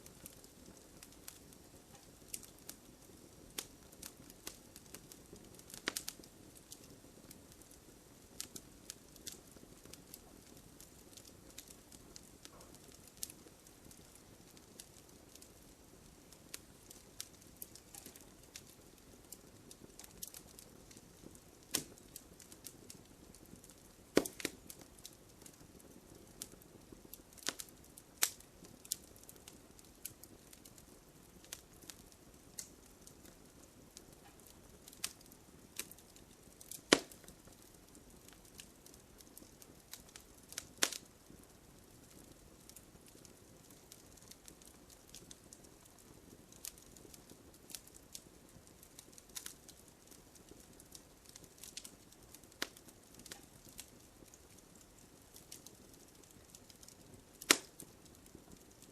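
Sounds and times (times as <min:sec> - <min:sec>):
campfire crackling: 0:00.0 - 0:58.9
faint steady hiss: 0:00.0 - 0:58.9.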